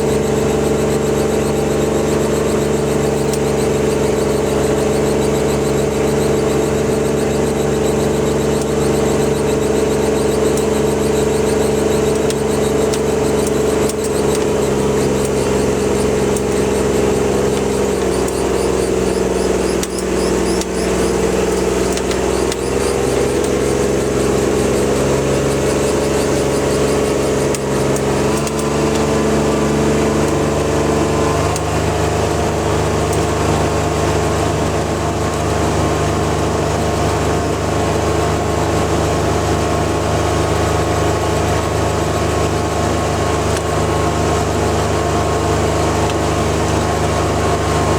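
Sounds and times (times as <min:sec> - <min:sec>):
utility vehicle engine running: 0:00.0 - 0:47.9.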